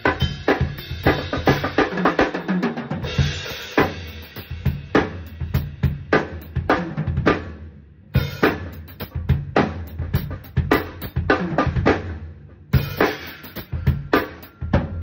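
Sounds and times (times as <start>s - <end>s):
drum kit playing: 0.0s - 15.0s.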